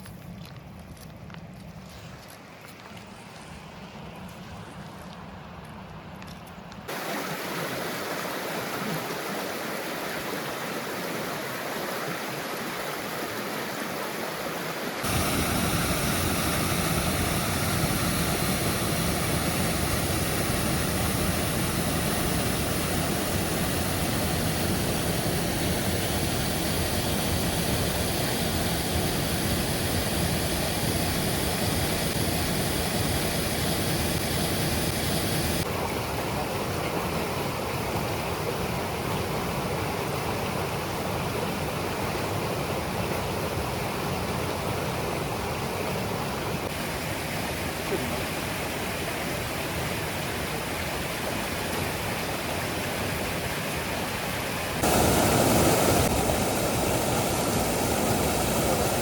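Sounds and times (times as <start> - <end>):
waterfall and stream rushing: 6.8 - 59.0.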